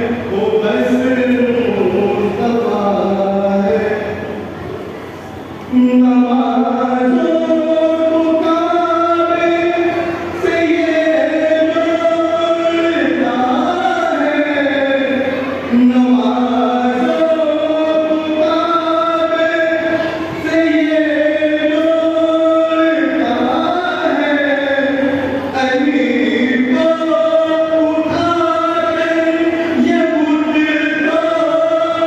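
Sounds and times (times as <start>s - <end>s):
men chanting: 5.7s - 32.0s.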